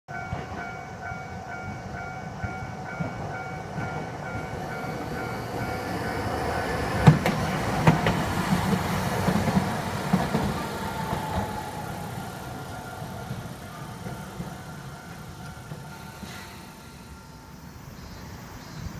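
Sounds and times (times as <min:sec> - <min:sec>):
level-crossing warning bell: 0:00.1 - 0:18.4
tram rumbling past: 0:00.1 - 0:18.9
tram wheels clacking: 0:00.1 - 0:18.9.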